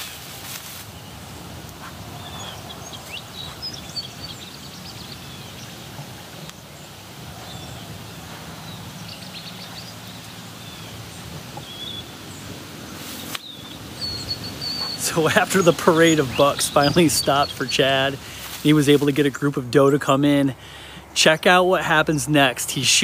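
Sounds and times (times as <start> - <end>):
low outdoor rumble: 0.0 - 23.0
small birds chirping: 0.0 - 23.0.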